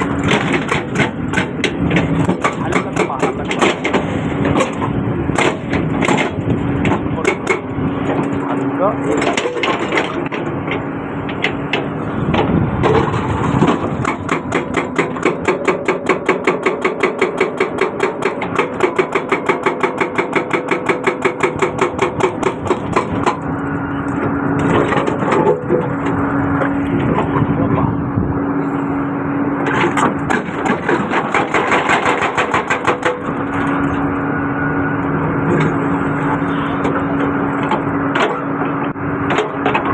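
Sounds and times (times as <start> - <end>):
hydraulic breaker hammering: 0.0 - 27.6, 29.6 - 34.1, 35.4 - 39.9
excavator engine running: 0.0 - 39.9.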